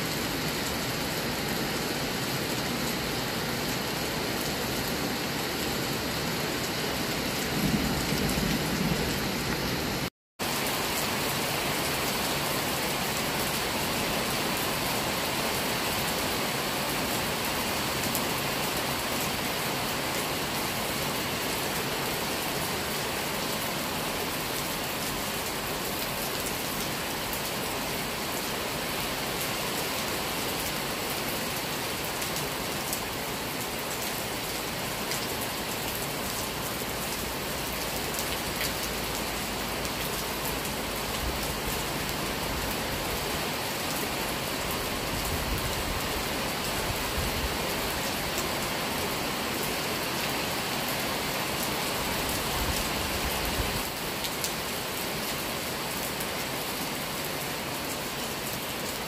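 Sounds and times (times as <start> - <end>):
steady rain on trees: 0.0 - 59.0.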